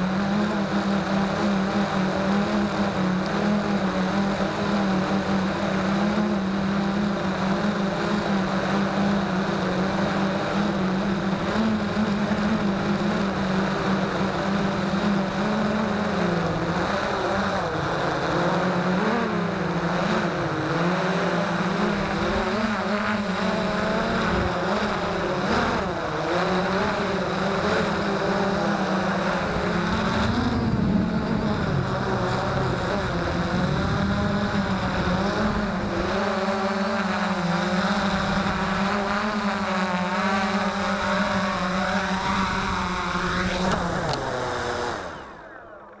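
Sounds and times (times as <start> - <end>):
drone propellers whining: 0.0 - 46.0.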